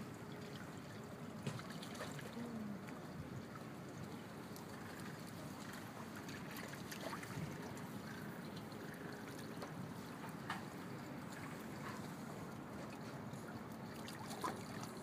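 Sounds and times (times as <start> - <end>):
water trickling in a pool: 0.0 - 15.0.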